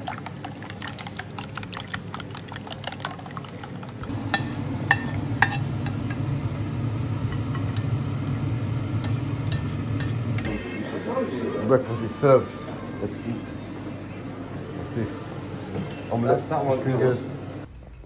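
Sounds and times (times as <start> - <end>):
steady low hum: 3.5 - 18.0.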